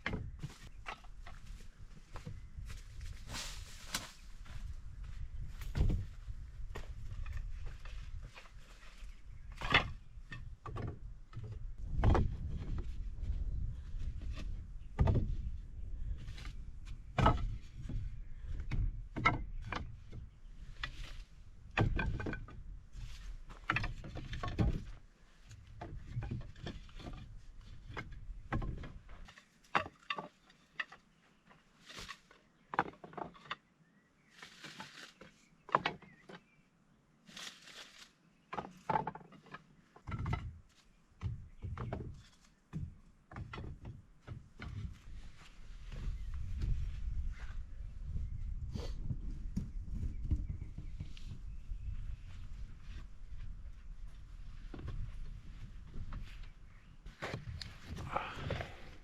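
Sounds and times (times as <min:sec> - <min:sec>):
wood knocking and clattering: 0:00.0 - 0:02.8, 0:03.9 - 0:13.4, 0:14.0 - 0:33.6, 0:35.7 - 0:36.5, 0:38.5 - 0:46.9, 0:52.4 - 0:59.0.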